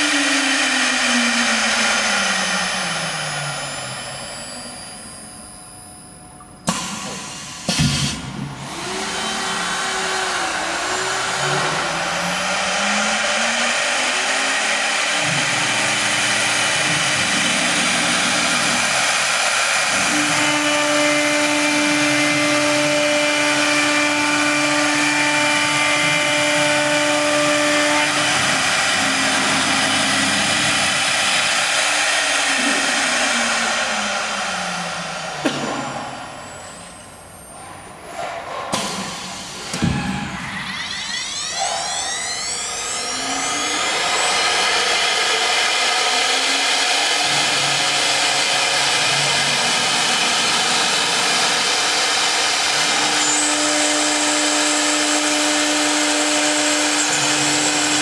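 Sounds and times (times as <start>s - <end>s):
cnc router spindles whining: 0.0s - 58.0s.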